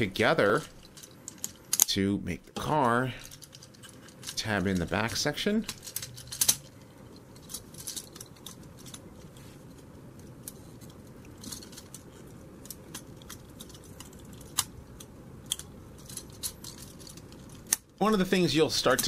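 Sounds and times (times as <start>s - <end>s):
plastic parts clicking and snapping: 0.7s - 1.9s, 2.6s - 9.3s, 10.2s - 18.0s.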